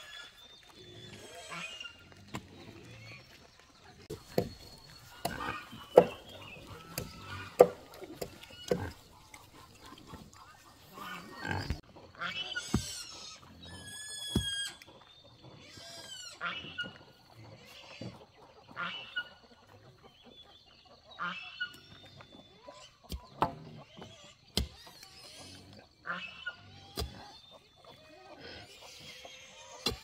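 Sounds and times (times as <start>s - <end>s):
pigs squealing: 0.0s - 3.3s, 4.0s - 19.4s, 23.6s - 30.0s.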